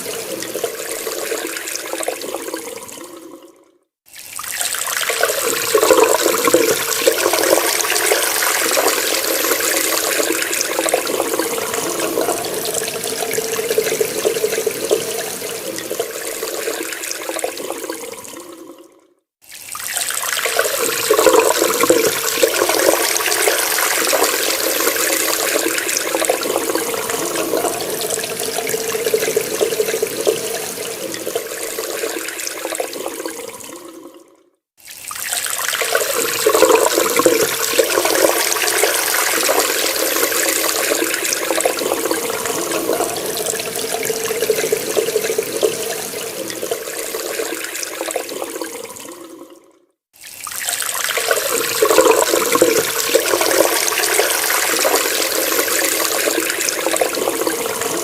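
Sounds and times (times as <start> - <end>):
water running from a tap: 4.1 - 18.2, 19.4 - 33.6, 34.8 - 49.4, 50.2 - 58.0.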